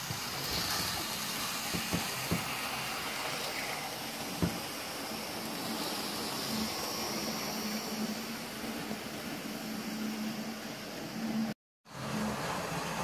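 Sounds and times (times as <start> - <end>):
model train whirring: 0.0 - 13.0.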